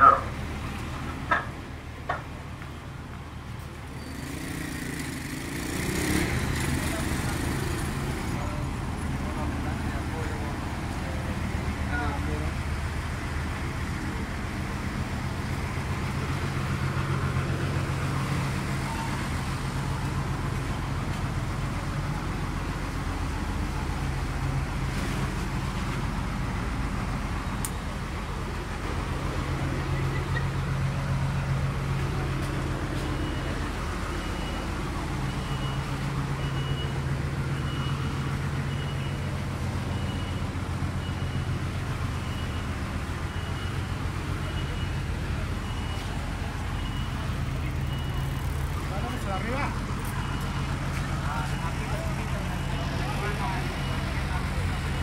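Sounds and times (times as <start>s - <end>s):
street traffic: 0.0s - 55.0s
vehicle engine idling: 0.0s - 55.0s.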